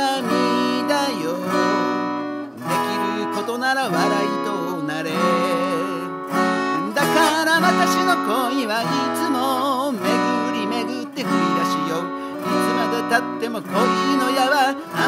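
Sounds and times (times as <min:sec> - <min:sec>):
acoustic guitar strumming: 0:00.0 - 0:15.0
person singing with vibrato: 0:00.0 - 0:15.0.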